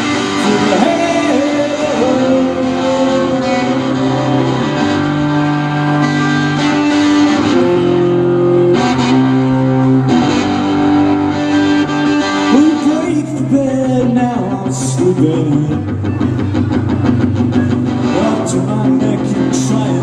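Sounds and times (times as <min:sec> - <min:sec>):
electric guitar strumming rock chords: 0:00.0 - 0:20.0.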